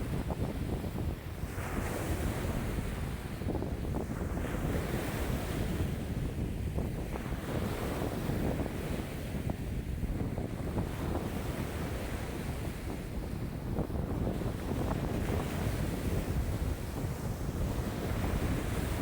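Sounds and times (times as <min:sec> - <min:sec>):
waves washing in: 0:00.0 - 0:19.0
wind buffeting microphone: 0:00.0 - 0:19.0.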